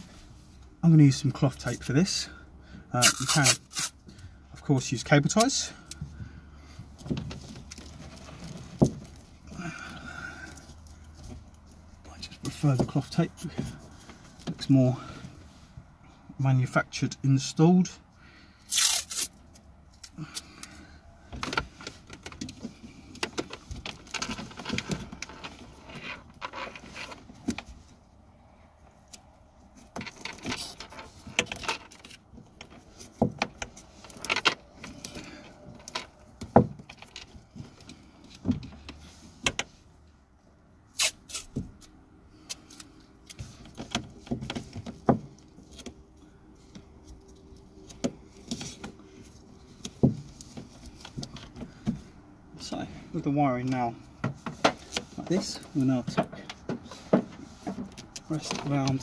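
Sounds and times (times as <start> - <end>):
tape and cables rustling: 2.9 - 4.2, 5.2 - 15.5, 18.7 - 40.2, 41.0 - 59.0.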